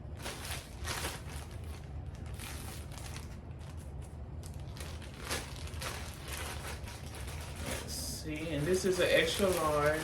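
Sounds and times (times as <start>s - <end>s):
packaging bag crinkling: 0.0s - 10.0s.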